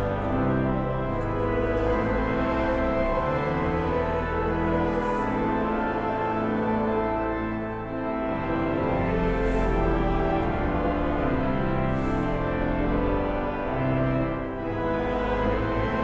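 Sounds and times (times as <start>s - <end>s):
slow sombre instrumental music: 0.0s - 16.0s.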